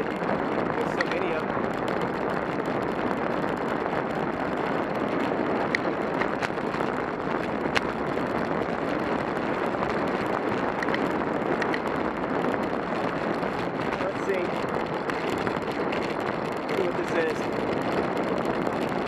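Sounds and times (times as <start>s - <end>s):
bicycle road noise on asphalt: 0.0s - 19.0s
wind rushing over microphone: 0.0s - 19.0s.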